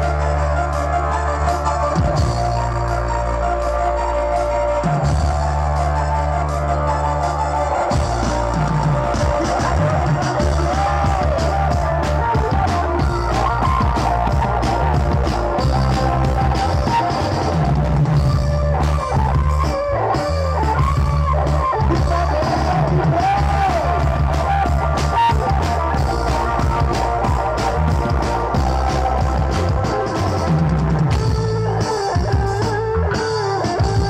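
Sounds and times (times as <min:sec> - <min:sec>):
marching bass drums: 0:00.0 - 0:03.3, 0:04.7 - 0:34.0
melody over loudspeakers: 0:00.0 - 0:34.0.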